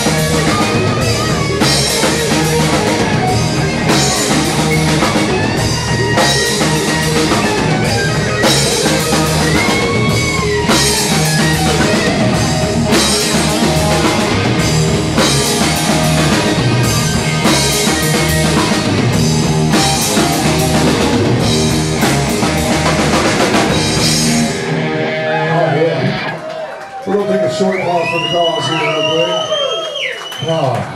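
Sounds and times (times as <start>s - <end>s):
rock band playing: 0.0s - 29.7s.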